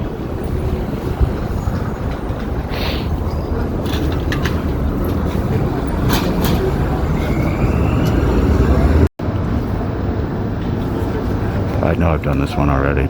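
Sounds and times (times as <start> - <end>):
passing vehicle whine: 0.0 - 12.3
city traffic rumble: 0.0 - 13.0.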